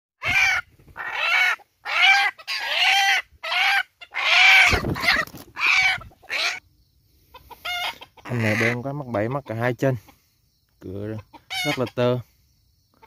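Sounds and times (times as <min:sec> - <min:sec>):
junglefowl squawking: 0:00.2 - 0:06.6, 0:07.2 - 0:10.2, 0:11.1 - 0:12.2.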